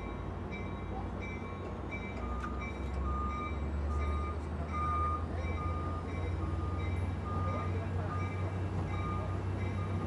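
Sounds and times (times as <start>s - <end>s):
low train rumble: 0.0s - 10.0s
railway warning bells dinging: 0.0s - 10.0s.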